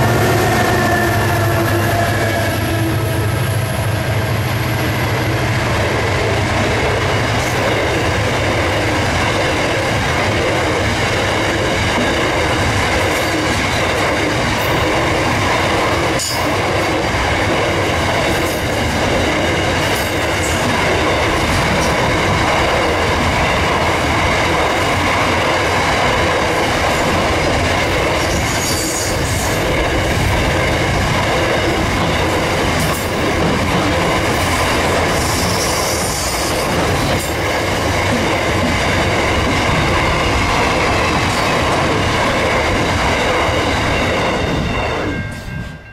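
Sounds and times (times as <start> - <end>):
steel wheels rumbling on rails: 0.0 - 45.9.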